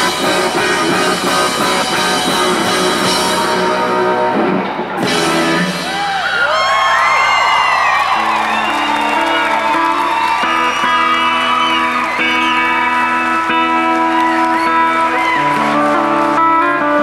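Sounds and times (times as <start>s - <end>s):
electric guitar ringing chords: 0.0s - 6.0s, 8.2s - 17.0s.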